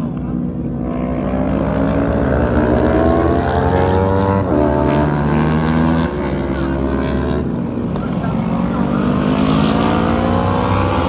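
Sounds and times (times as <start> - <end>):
motorcycle engine at high revs: 0.6 - 11.0.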